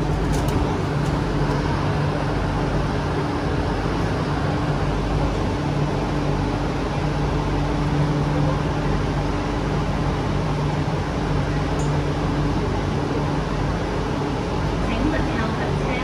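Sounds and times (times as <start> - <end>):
low even equipment hum: 0.0 - 16.0
train cabin noise: 0.0 - 16.0.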